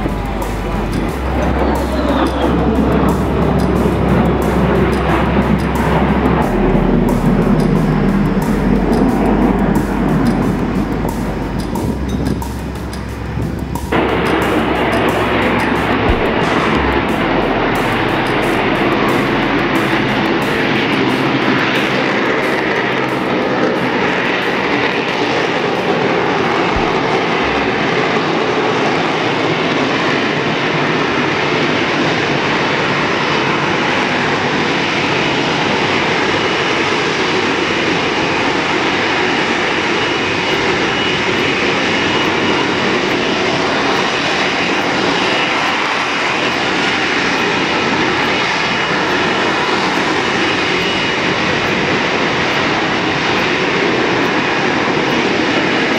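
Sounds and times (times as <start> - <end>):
jet engine roaring overhead: 0.0 - 55.9.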